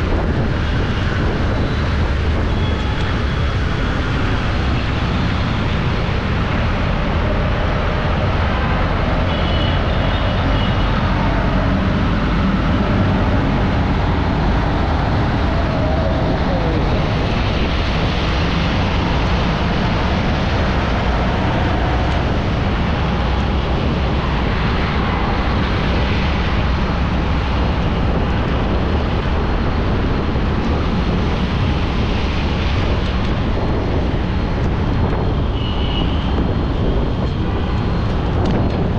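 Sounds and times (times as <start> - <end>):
car driving in city traffic: 0.0 - 38.9.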